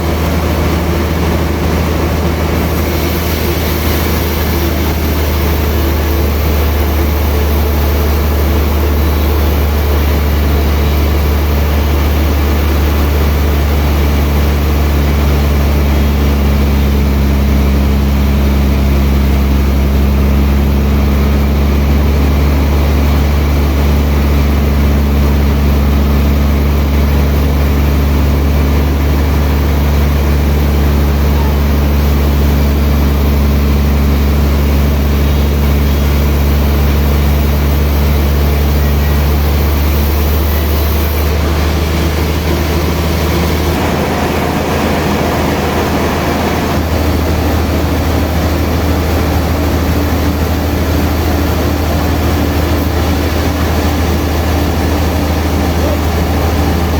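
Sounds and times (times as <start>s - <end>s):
rough machinery noise: 0.0s - 56.9s
sawmill motor humming: 0.0s - 56.9s.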